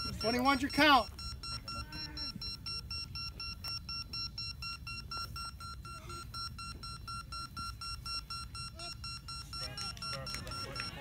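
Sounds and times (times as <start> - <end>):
rapid electronic beeps: 0.0 - 11.0.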